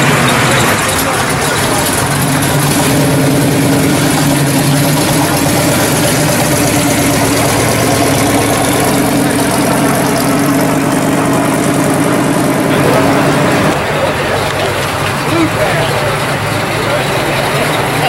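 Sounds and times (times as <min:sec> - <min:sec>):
car engine running at low speed: 0:00.0 - 0:18.0.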